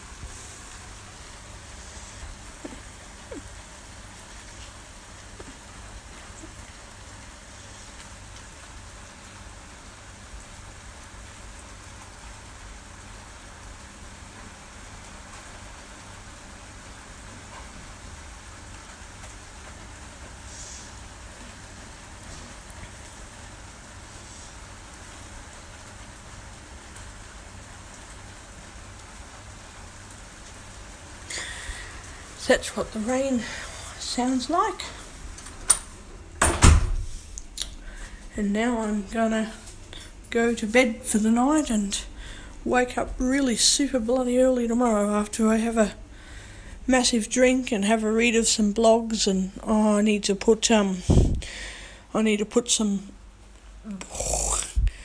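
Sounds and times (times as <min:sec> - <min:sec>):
heavy rain pattering: 0:00.0 - 0:36.5, 0:37.1 - 0:49.2.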